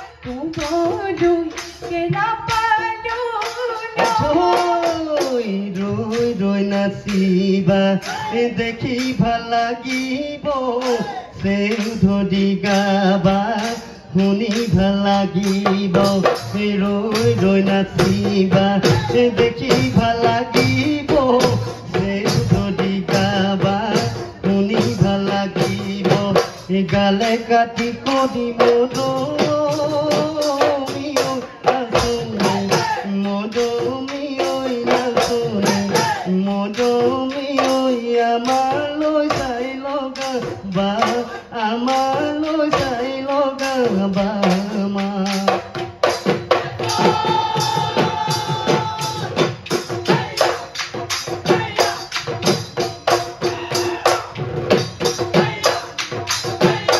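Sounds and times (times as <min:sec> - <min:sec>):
drums beating fast rhythm: 0:00.0 - 0:56.9
jingling percussion: 0:00.0 - 0:56.9.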